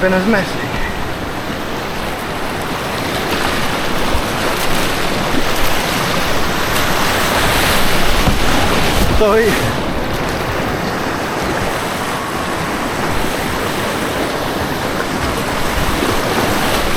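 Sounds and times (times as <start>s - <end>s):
white water rushing: 0.0s - 16.9s.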